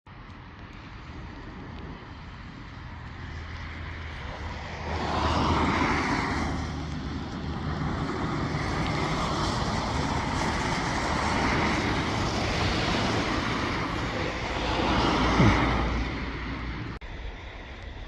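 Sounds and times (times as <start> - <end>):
engine rumble: 0.1 - 18.0
vehicle passing rush: 0.1 - 18.0.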